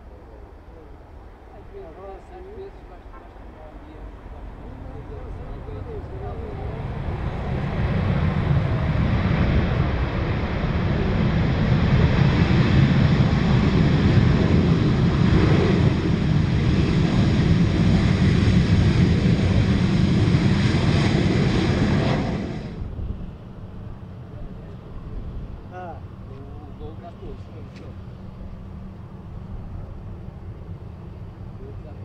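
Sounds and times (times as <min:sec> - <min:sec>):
jet engines at high power: 0:00.0 - 0:32.0.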